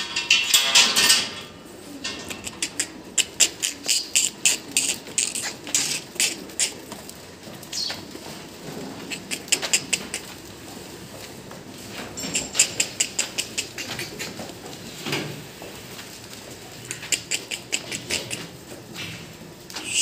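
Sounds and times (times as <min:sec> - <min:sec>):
goat hooves clattering on hard floor: 0:02.2 - 0:19.8.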